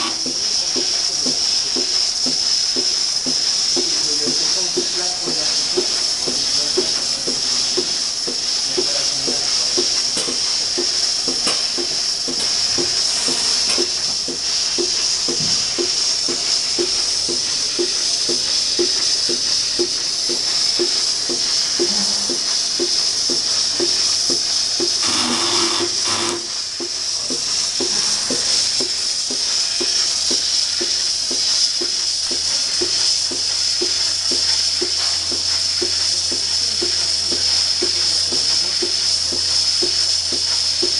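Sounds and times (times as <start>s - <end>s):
milking robot vacuum hiss: 0.0s - 40.9s.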